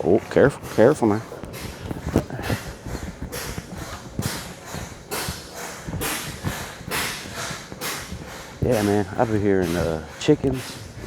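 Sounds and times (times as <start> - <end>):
footsteps crunching: 0.0 - 11.0
soft low thumps: 0.0 - 11.0.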